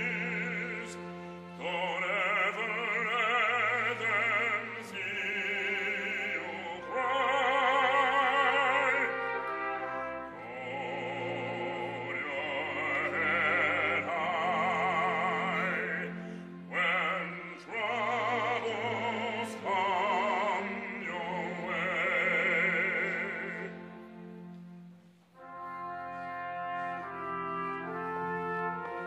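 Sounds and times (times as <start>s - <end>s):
operatic solo singing: 0.0s - 24.5s
orchestral accompaniment: 0.0s - 29.0s.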